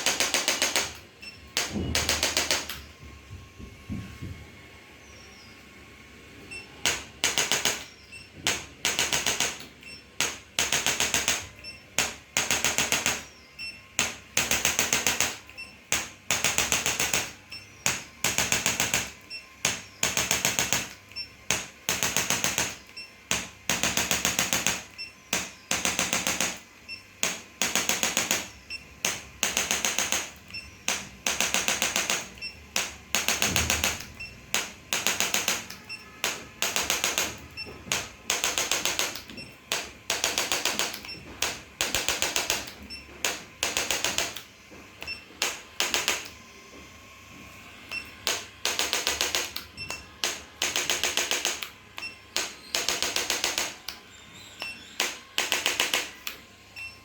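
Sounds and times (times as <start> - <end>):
rapid mechanical tapping bursts: 0.0 - 3.0, 6.6 - 46.4, 47.9 - 56.4.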